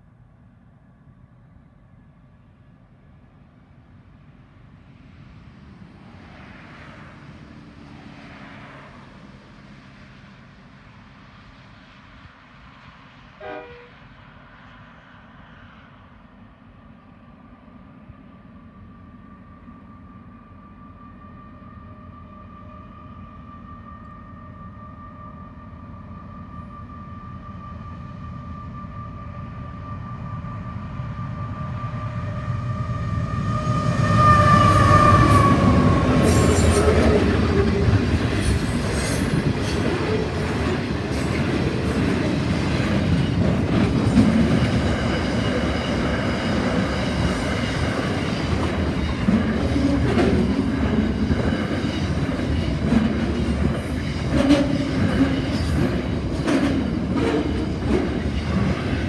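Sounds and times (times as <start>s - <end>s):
diesel locomotives high whine: 0.0s - 59.0s.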